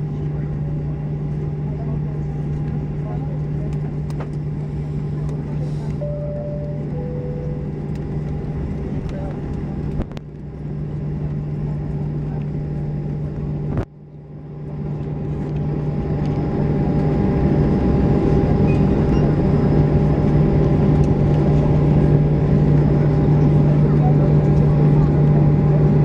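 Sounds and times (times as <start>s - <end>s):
aircraft cabin engine drone: 0.0s - 26.0s.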